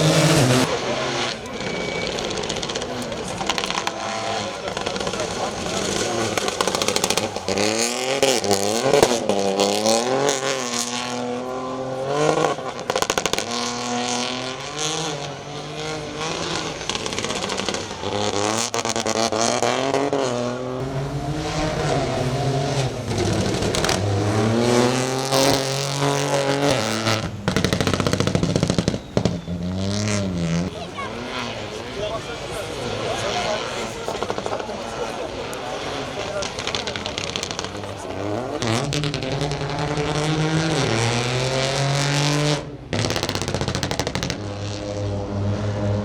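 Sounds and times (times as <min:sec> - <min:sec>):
sharp exhaust cracks: 0:00.0 - 0:11.2, 0:12.4 - 0:41.4, 0:42.8 - 0:44.8
rally car engine revving: 0:00.0 - 0:46.0.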